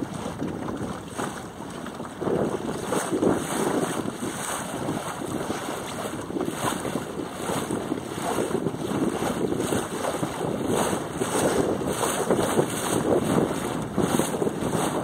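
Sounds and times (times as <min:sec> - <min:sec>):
rushing choppy water: 0:00.0 - 0:15.0
wind buffeting microphone: 0:00.0 - 0:15.0.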